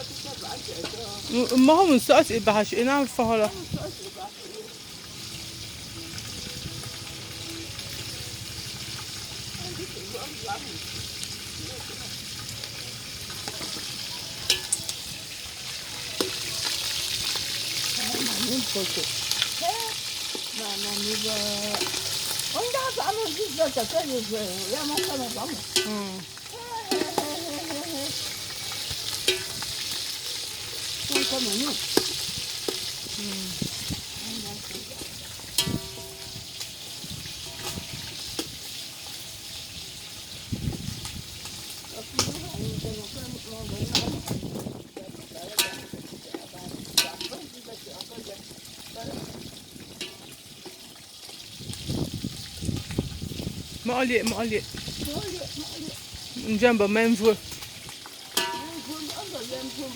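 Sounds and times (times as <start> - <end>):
food sizzling in a pot: 0.0 - 59.9.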